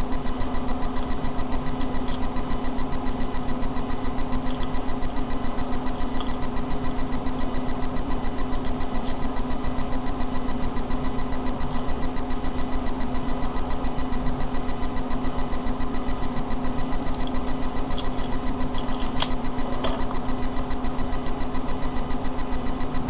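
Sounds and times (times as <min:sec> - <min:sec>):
pulsing machine hum: 0:00.0 - 0:23.0.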